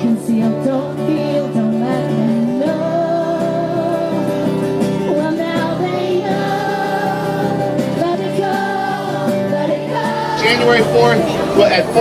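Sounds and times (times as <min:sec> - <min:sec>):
group singing a carol: 0:00.0 - 0:12.0.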